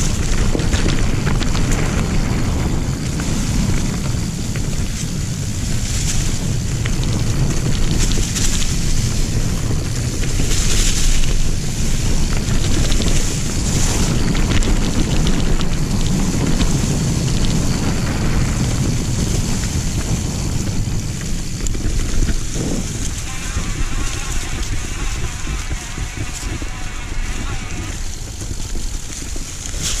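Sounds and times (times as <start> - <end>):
bike rattling clicks: 0.0 - 30.0
tyres rumbling on dirt trail: 0.0 - 30.0
wind rushing over microphone: 0.0 - 30.0.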